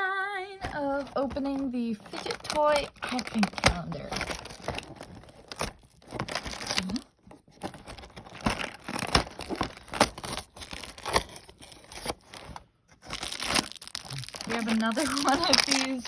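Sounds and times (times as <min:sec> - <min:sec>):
packaging crinkling and tearing: 0:00.6 - 0:16.0.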